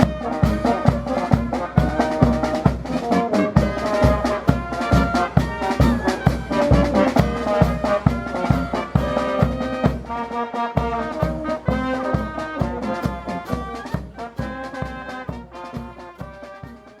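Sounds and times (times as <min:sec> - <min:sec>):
steady drum beat: 0:00.0 - 0:17.0
trombones and trumpets: 0:00.0 - 0:17.0.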